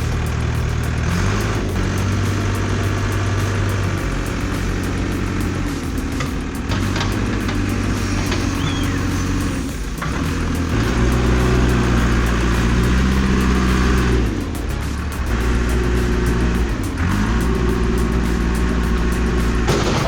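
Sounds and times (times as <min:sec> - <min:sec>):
background music: 0:00.0 - 0:20.0
diesel engine under load: 0:00.0 - 0:20.0.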